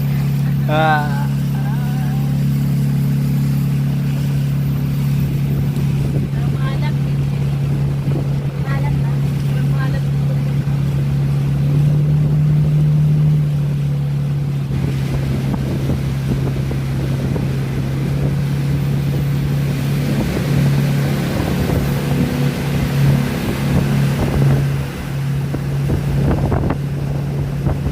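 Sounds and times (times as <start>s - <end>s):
wind on microphone: 0.0s - 13.7s, 14.4s - 27.9s
boat engine droning: 0.0s - 27.9s.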